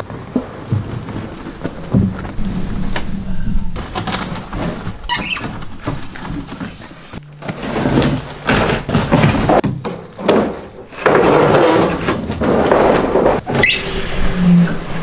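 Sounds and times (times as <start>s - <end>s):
wood scraping on wood: 0.2s - 15.0s.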